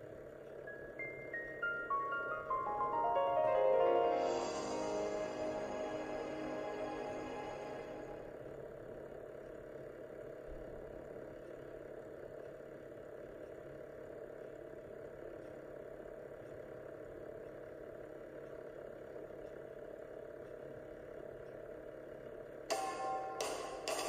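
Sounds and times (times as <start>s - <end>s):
room noise hum: 0.0s - 24.0s.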